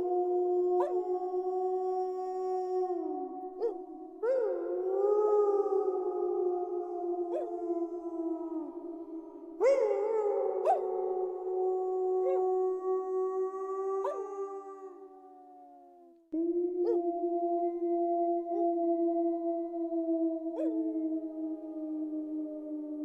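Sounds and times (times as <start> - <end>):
wolves howling: 0.0 - 15.2, 16.4 - 23.0.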